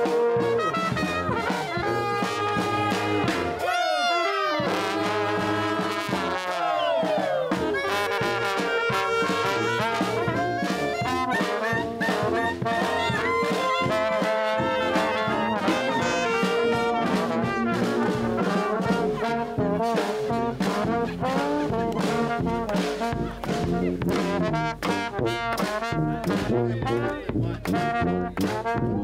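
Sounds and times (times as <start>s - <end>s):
snare and bass drum beats: 0.0s - 3.9s, 4.6s - 29.0s
brass band playing: 0.0s - 29.0s.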